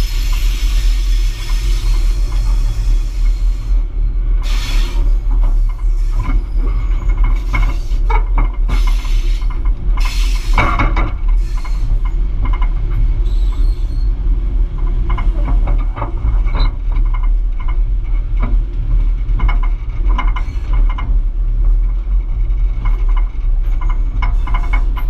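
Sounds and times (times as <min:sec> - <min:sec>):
diesel locomotive engine rumble: 0:00.0 - 0:25.0
wheels and couplings clanking: 0:00.0 - 0:25.0.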